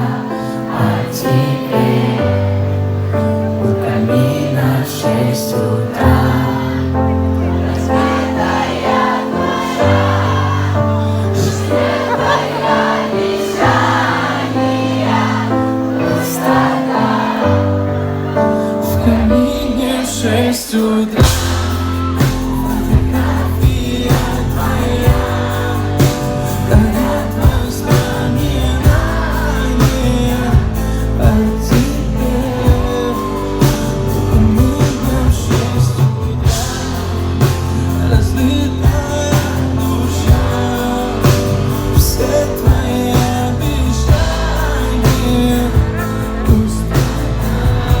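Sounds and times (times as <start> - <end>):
live pop music: 0.0 - 48.0
people singing: 0.0 - 48.0.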